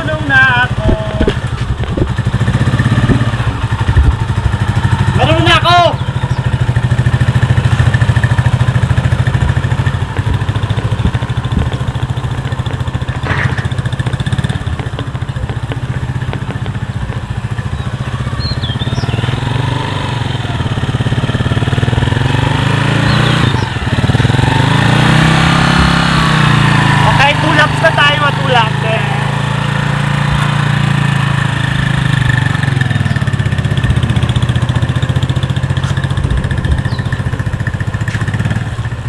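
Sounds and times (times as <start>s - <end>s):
small motorcycle engine running: 0.0s - 39.0s.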